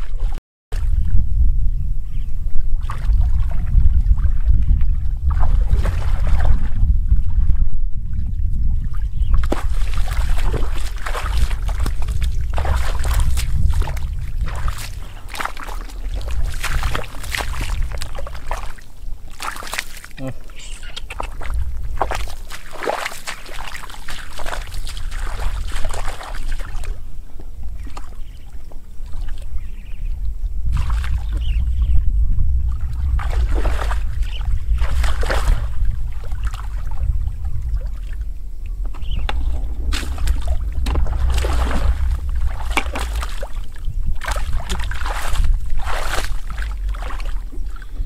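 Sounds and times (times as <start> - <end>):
low rumble: 0.7 - 19.5, 20.1 - 22.7, 28.6 - 48.0
floodwater splashing: 2.8 - 7.0, 8.9 - 30.0, 30.6 - 32.0, 32.6 - 48.0.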